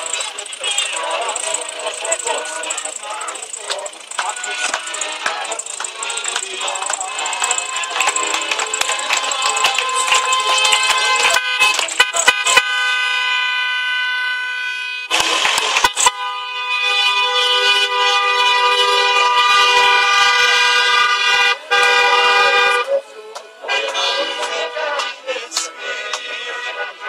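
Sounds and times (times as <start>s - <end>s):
two-tone car horn: 0.0s - 23.0s, 23.7s - 27.0s.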